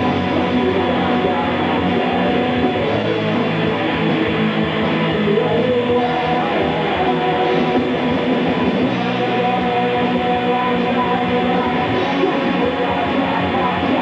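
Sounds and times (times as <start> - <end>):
rock band playing: 0.0 - 14.0
strummed electric guitar: 0.0 - 14.0.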